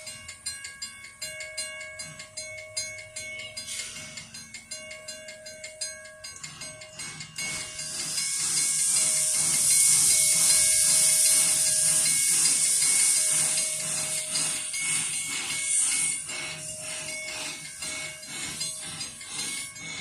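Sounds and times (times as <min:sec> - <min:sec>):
regular pulsing: 0:00.0 - 0:20.0
steam locomotive hissing: 0:01.9 - 0:20.0.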